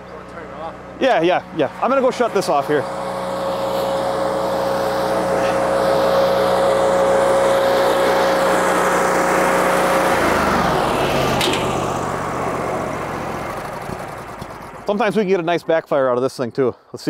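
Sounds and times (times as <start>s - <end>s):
firewood processor whine: 0.0s - 16.0s
tractor engine drone: 0.0s - 16.2s.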